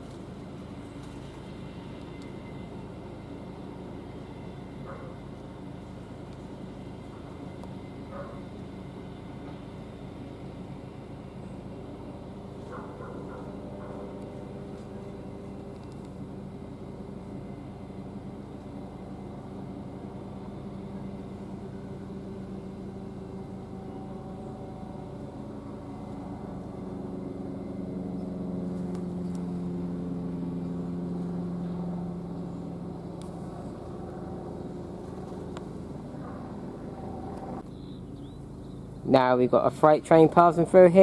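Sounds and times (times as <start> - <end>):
diesel locomotive engine drone: 0.0 - 41.0.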